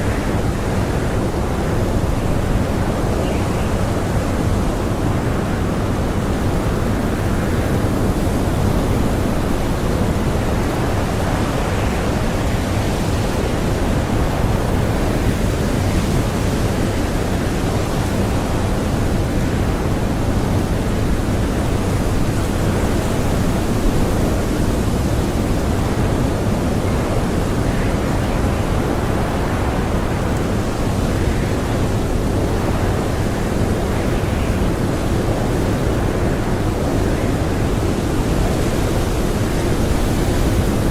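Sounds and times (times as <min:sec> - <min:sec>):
strong blizzard wind: 0:00.0 - 0:40.9.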